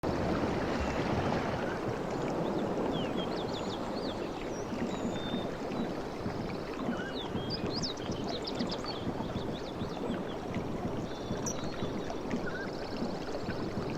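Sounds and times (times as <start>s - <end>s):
sea waves washing: 0.0s - 13.9s.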